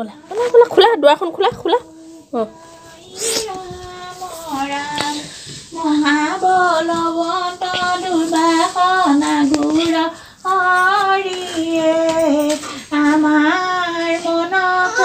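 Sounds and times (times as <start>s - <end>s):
woman singing a hymn: 0.0s - 15.0s.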